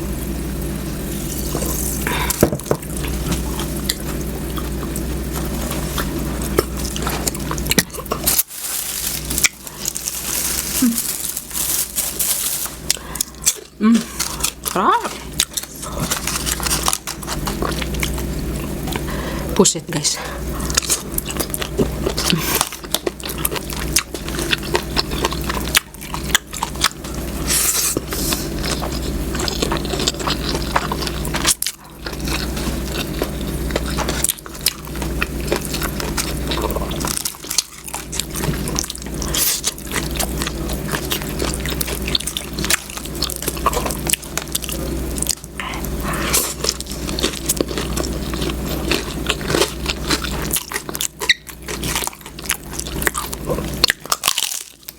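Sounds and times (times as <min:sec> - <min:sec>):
wet chewing and smacking: 0:01.4 - 0:08.5, 0:09.2 - 0:19.2, 0:20.6 - 0:54.9.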